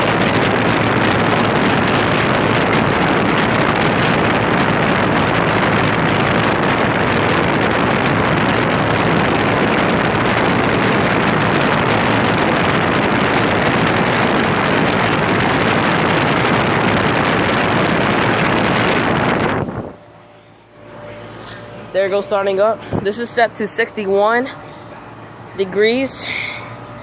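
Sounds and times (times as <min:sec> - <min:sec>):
heat pump air rushing: 0:00.0 - 0:27.0.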